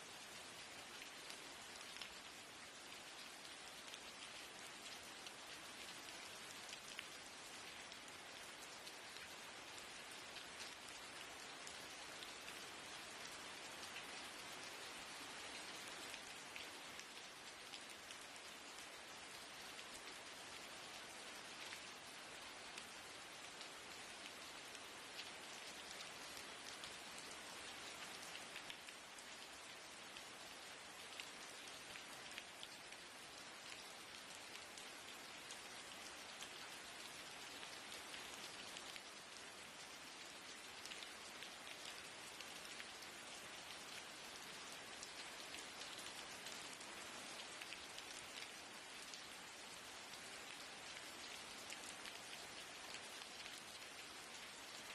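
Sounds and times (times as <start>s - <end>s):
rain on a window: 0.0s - 54.9s.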